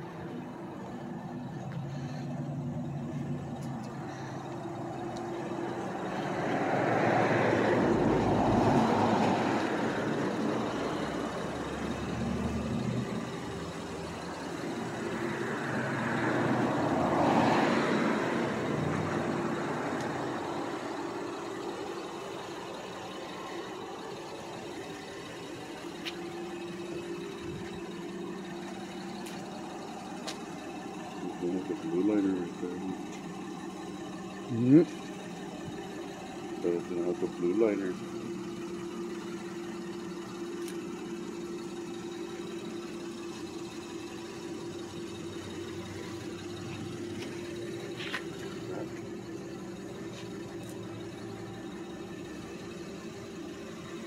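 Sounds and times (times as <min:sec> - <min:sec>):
low engine hum: 0:00.0 - 0:54.0
vehicles passing: 0:00.0 - 0:54.0.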